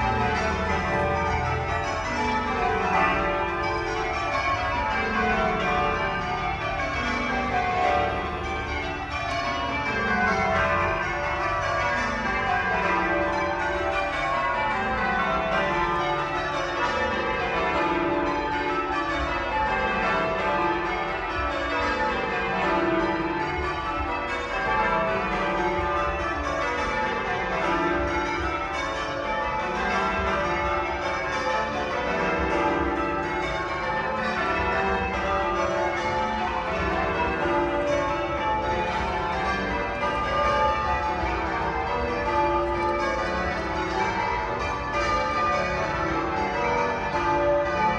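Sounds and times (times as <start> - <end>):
church bells change ringing: 0.0 - 47.9.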